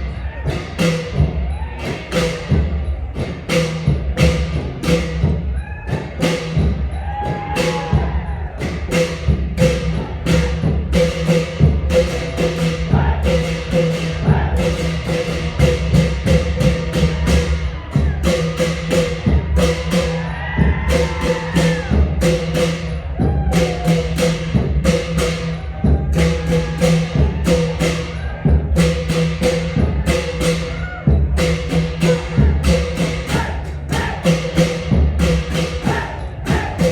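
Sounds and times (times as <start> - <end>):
deep long drums: 0.0 - 36.9.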